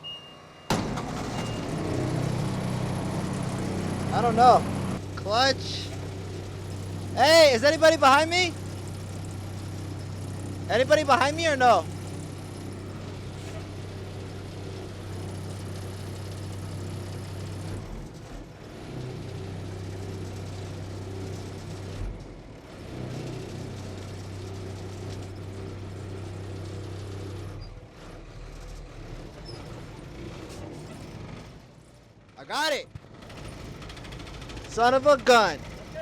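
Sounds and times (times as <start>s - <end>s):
vehicle engine running: 0.7s - 36.0s.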